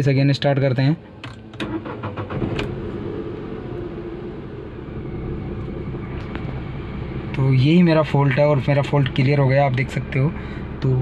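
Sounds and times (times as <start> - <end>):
car engine starting: 0.7 - 11.0
car engine idling: 1.0 - 11.0.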